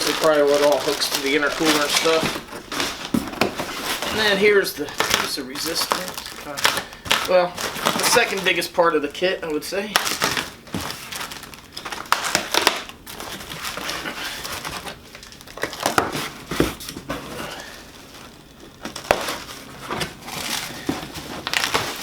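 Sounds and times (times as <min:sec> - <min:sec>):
packaging crinkling and rustling: 0:00.0 - 0:22.0.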